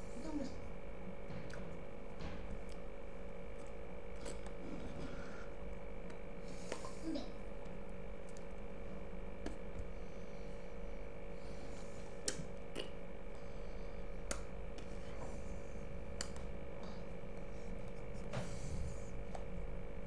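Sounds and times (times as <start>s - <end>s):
electrical hum and hiss: 0.0s - 20.0s.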